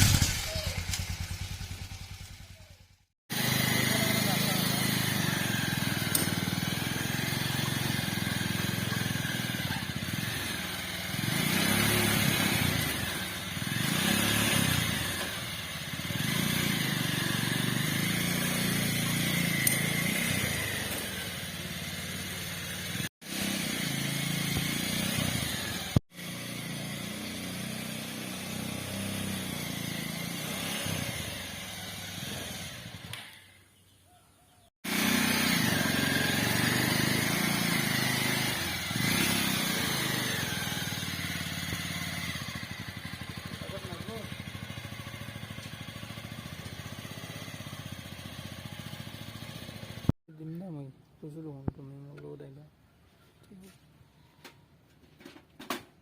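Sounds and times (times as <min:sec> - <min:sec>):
motorcycle engine revving: 0:00.0 - 0:33.6, 0:34.6 - 0:50.2.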